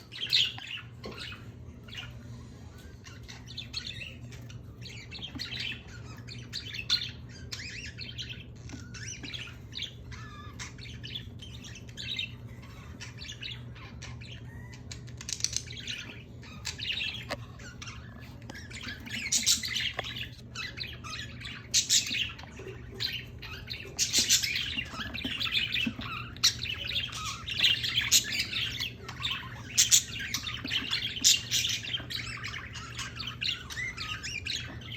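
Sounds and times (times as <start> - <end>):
birds chirping and squawking: 0.0 - 34.9
steady low hum: 0.0 - 34.9.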